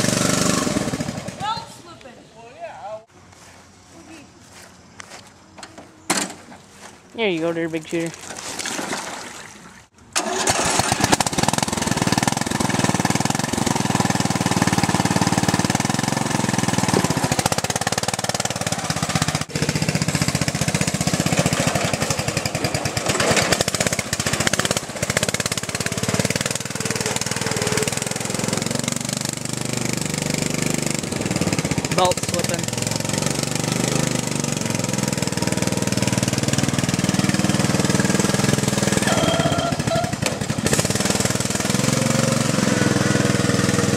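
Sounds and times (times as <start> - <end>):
lawn tractor engine running under load: 0.0 - 1.7, 10.1 - 43.9.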